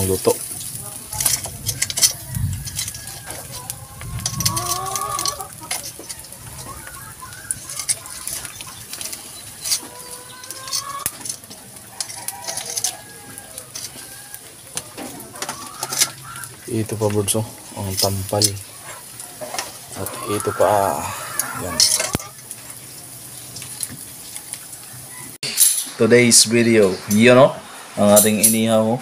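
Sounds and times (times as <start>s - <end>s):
chickens clucking: 0.0s - 25.5s.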